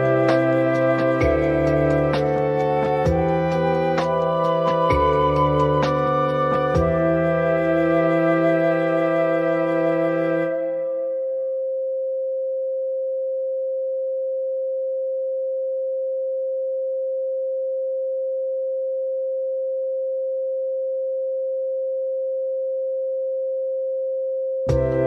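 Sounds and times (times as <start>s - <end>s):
electronic pure tone: 0.0s - 25.0s.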